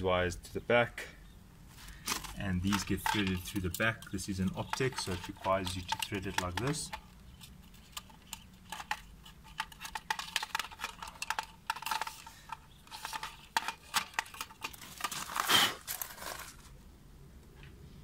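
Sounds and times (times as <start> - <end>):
clicks and rustles of wiring: 1.7 - 16.8
scraping rustle: 1.7 - 16.8.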